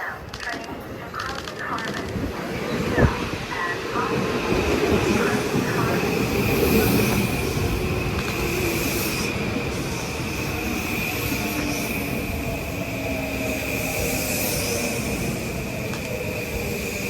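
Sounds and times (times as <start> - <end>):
train rumbling past: 0.1 - 17.0.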